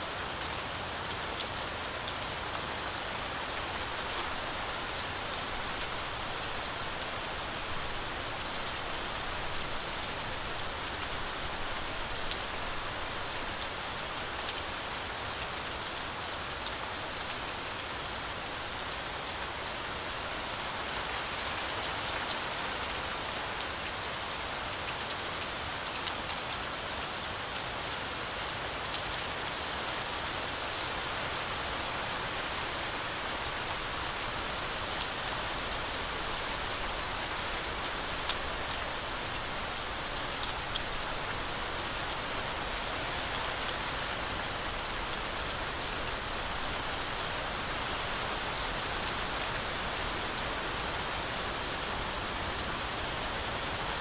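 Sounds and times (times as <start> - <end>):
heavy rain through forest canopy: 0.0 - 54.0.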